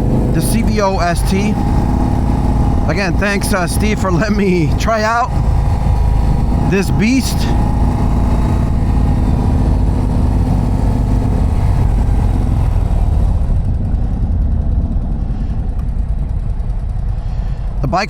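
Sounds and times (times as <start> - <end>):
motorcycle engine rumble: 0.0 - 18.0.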